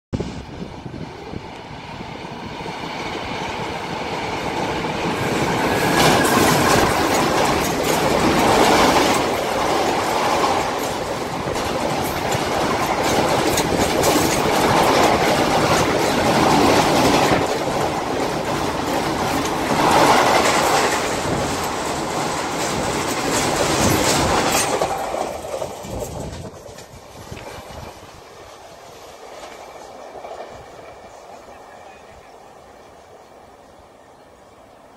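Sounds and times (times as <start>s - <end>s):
train passing on a bridge: 0.2s - 34.9s
wheels clattering on rails: 2.6s - 31.9s.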